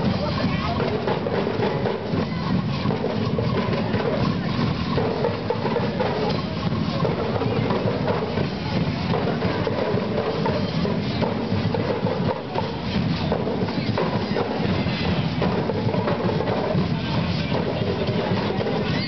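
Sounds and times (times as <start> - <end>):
marching snare drums: 0.0 - 19.0.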